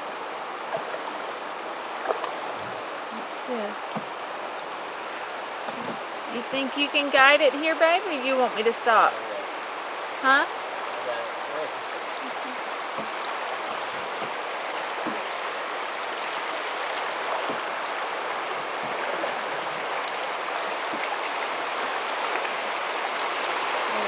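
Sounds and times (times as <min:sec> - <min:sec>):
river water rushing over rocks: 0:00.0 - 0:24.0.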